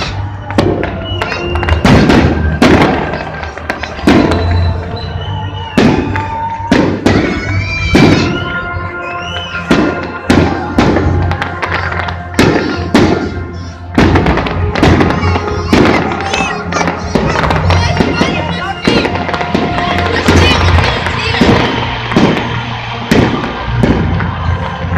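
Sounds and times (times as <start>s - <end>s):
fireworks bangs: 0.0s - 24.9s
music playing: 0.0s - 24.9s.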